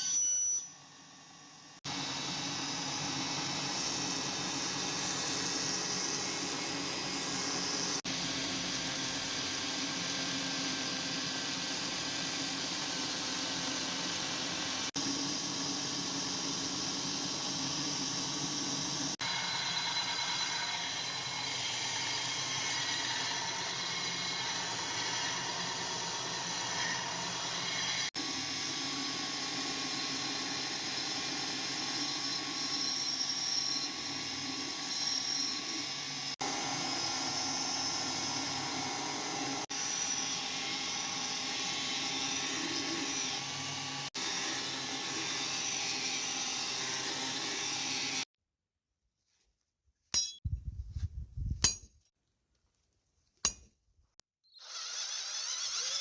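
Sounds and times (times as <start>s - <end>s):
electric grinder grinding steel: 0.0s - 48.3s, 54.4s - 56.0s.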